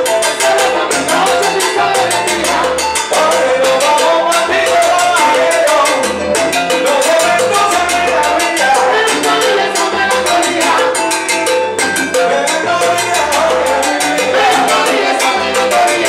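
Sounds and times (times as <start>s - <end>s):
bass notes: 0.0s - 16.0s
dense percussion rhythm: 0.0s - 16.0s
people singing into microphones: 0.0s - 16.0s
salsa band playing: 0.0s - 16.0s.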